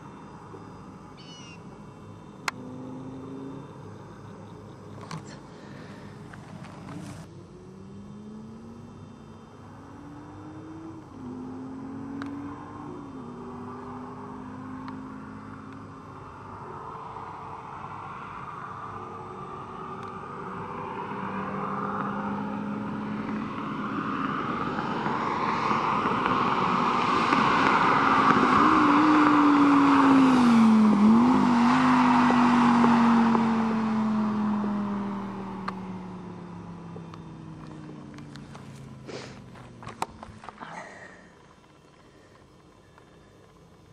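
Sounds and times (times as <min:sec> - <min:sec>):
sports car engine accelerating: 0:02.1 - 0:43.7.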